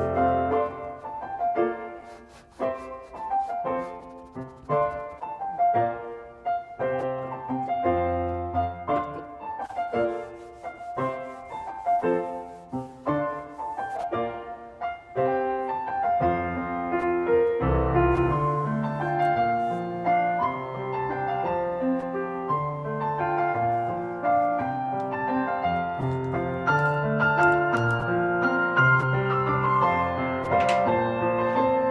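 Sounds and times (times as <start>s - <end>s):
piano music: 0.0s - 31.9s.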